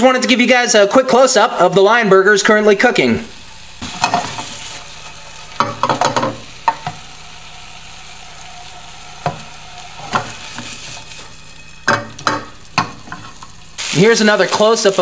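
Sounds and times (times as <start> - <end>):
burger patties sizzling in a skillet: 2.4 - 15.0.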